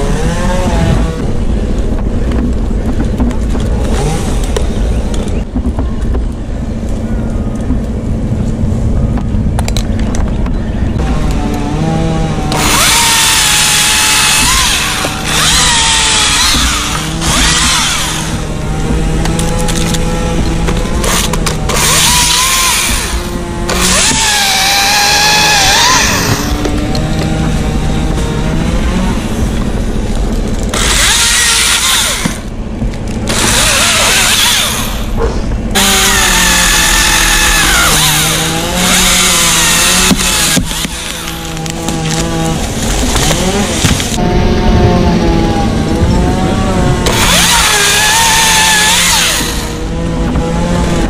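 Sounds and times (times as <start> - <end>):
chainsaw revving: 0.0 - 1.5, 3.8 - 4.8, 11.0 - 51.0.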